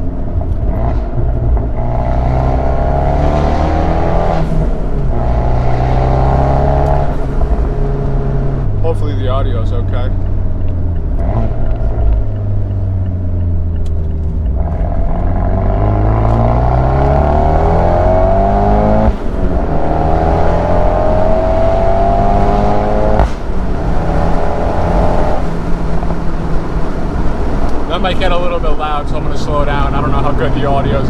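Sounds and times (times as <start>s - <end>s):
turbocharged car engine accelerating: 0.0s - 31.0s.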